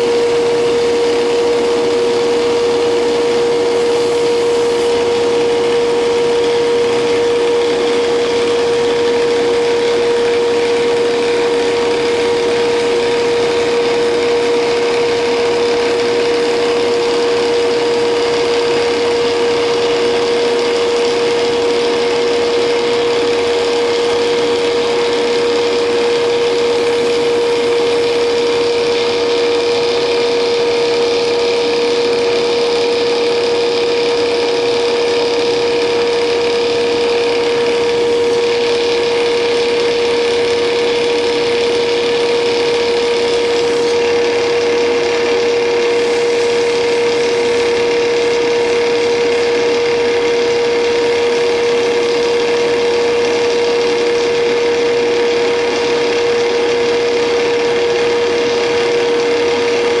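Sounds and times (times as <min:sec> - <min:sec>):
lathe machine hum: 0:00.0 - 1:00.0.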